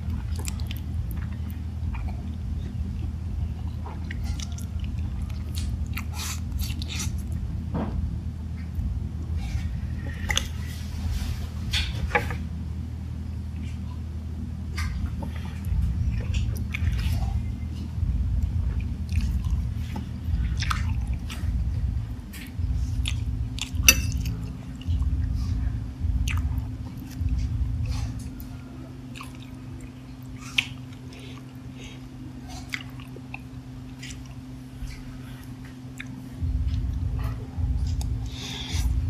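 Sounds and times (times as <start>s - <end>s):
close chewing of noodles: 0.0s - 7.6s, 14.9s - 39.0s
low steady hum: 0.0s - 39.0s.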